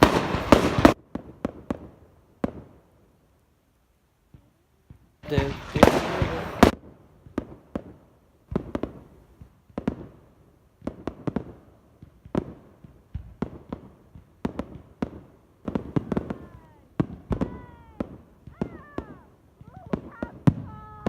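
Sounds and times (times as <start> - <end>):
fireworks bangs and cracks: 0.0 - 2.8, 4.3 - 21.0.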